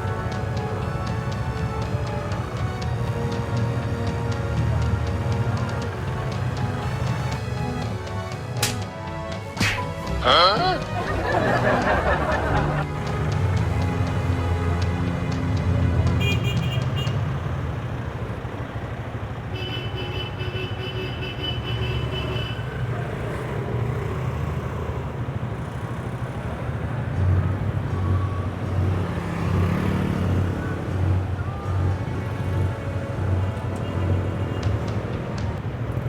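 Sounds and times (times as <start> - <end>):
background music: 0.0 - 19.7, 22.7 - 36.0
road traffic rumble: 0.0 - 36.0.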